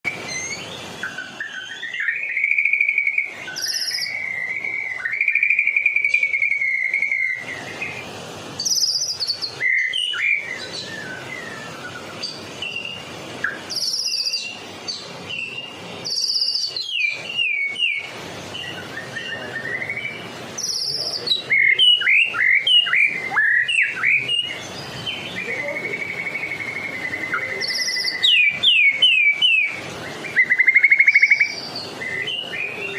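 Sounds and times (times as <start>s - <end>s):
songbird singing trills and whistles: 0.1s - 32.9s.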